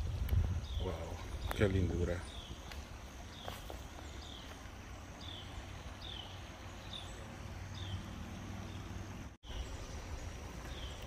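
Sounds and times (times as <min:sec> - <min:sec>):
bird chirping: 0:00.3 - 0:11.0.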